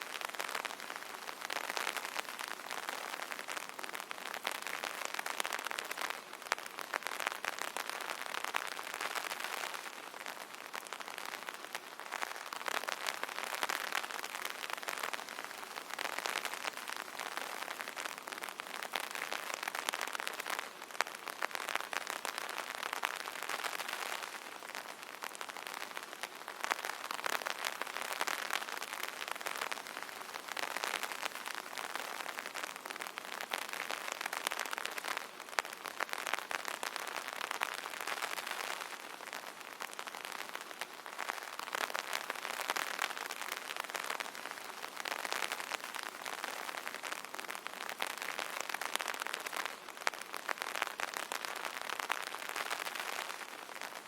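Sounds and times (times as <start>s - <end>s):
rain falling on an umbrella: 0.0s - 54.0s.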